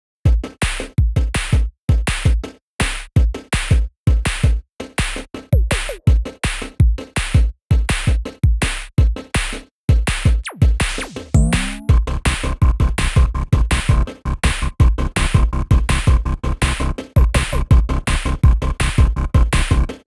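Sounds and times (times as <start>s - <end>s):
drum machine beat: 0.3s - 20.0s.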